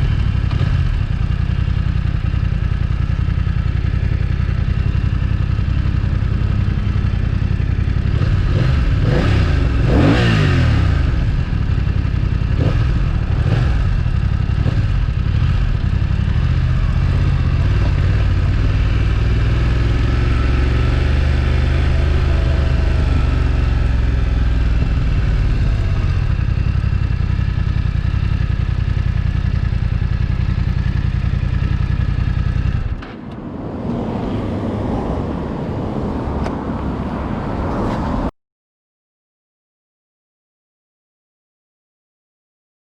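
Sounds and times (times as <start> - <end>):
motorcycle engine and exhaust: 0.0 - 38.3.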